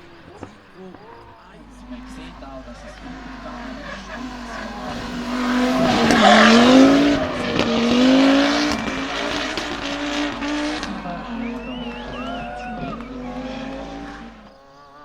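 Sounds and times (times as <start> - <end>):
racing car engine revving: 0.0 - 14.6.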